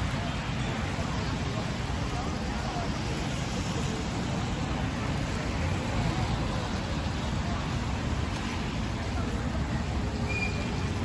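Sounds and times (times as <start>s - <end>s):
cars passing on wet road: 0.0s - 11.0s.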